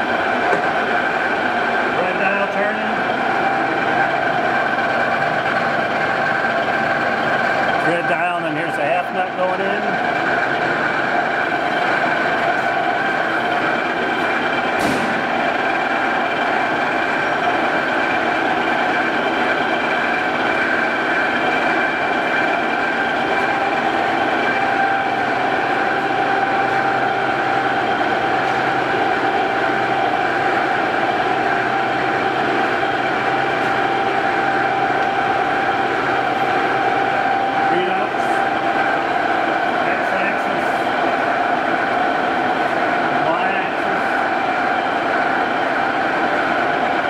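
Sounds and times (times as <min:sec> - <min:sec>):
lathe humming with gear whine: 0:00.0 - 0:47.0.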